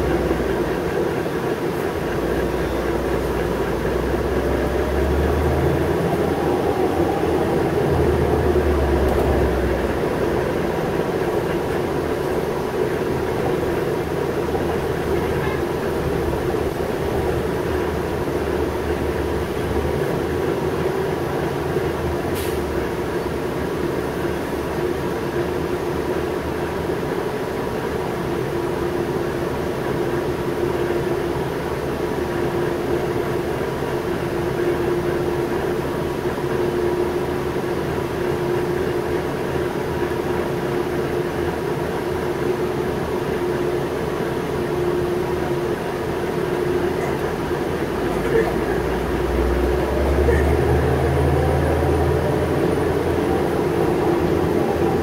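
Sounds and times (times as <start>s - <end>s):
bus engine hum: 0.0s - 55.0s.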